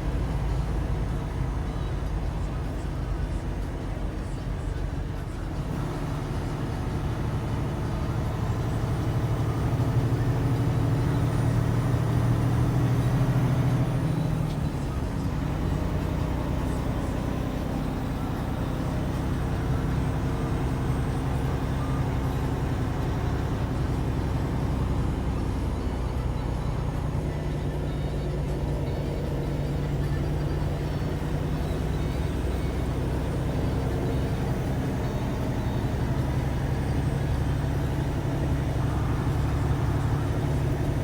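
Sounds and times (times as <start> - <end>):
road noise: 0.0 - 41.0
truck engine driving: 0.0 - 41.0.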